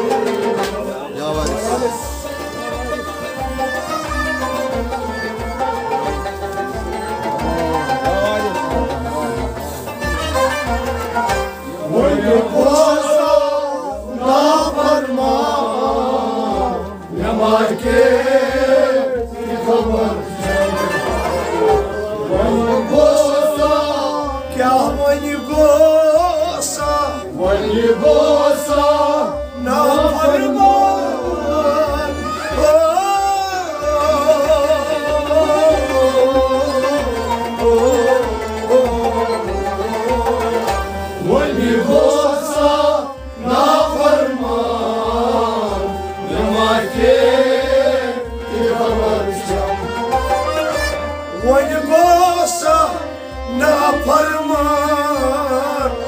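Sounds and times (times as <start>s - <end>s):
harmonium: 0.0s - 56.0s
man singing folk song: 0.0s - 56.0s.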